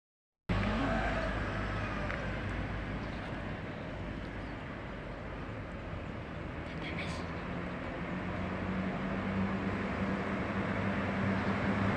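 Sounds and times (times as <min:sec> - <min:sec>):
bus engine rumble: 0:00.5 - 0:11.9.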